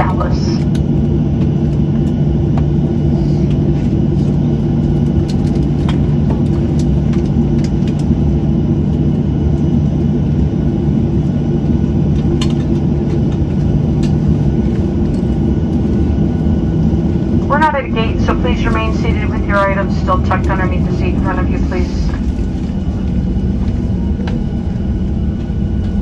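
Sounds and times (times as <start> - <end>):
jet engines idling: 0.0 - 26.0.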